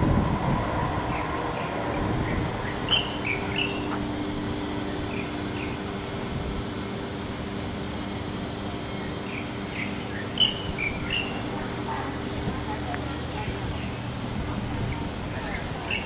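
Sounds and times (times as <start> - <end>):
traffic and machinery rumble: 0.0 - 16.0.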